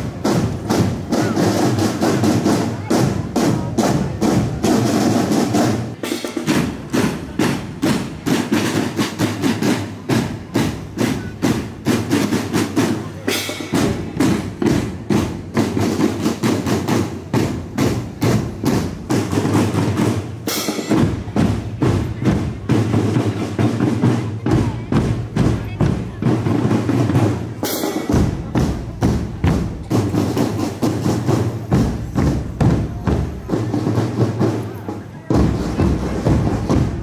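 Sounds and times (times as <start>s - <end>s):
marching drum band: 0.0s - 37.0s.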